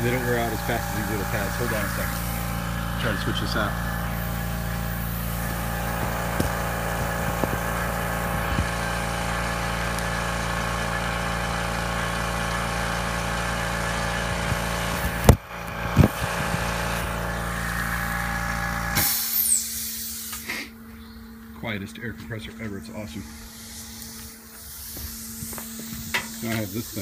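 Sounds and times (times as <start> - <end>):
electric air compressor running: 0.0 - 21.5, 22.4 - 27.0.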